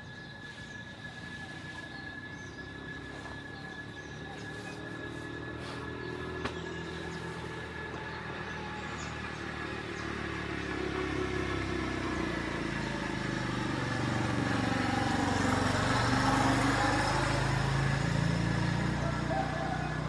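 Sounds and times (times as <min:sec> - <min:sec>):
vehicle engine approaching: 0:00.0 - 0:20.0.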